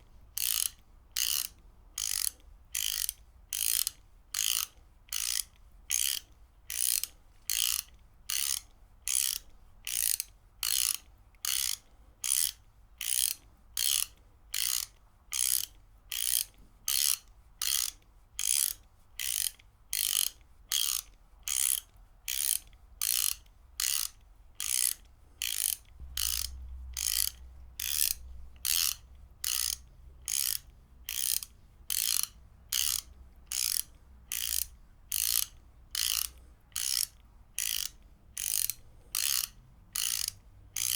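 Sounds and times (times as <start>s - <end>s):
ratchet wrench clicking: 0.4s - 40.9s.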